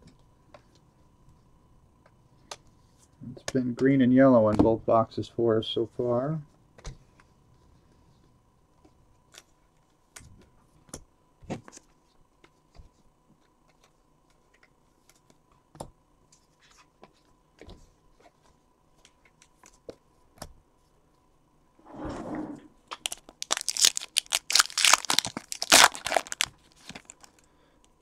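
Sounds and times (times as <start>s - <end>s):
faint high hum: 0.0s - 28.0s.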